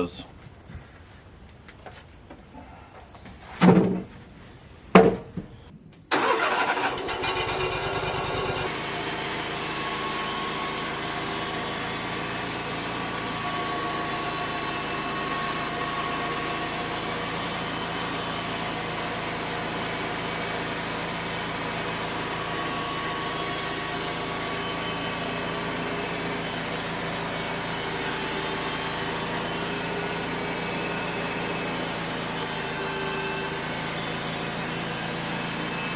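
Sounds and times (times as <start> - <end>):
sawmill engine running: 6.1 - 35.9
bandsaw blade cutting wood: 6.2 - 35.9.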